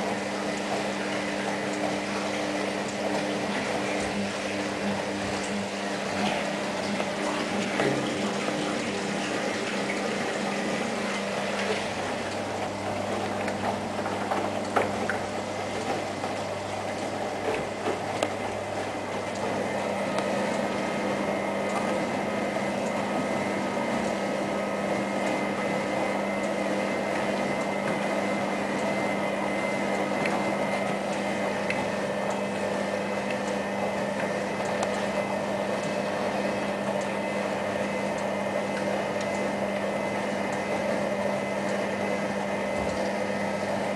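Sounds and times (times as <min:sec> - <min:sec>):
washing machine motor hum: 0:00.0 - 0:43.9
water sloshing in washing machine: 0:00.0 - 0:43.9.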